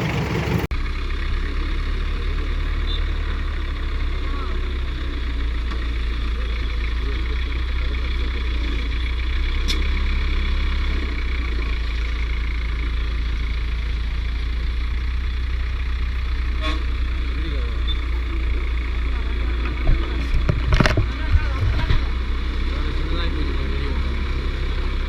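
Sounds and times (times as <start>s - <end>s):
heavy vehicle engine idling: 0.0s - 25.0s.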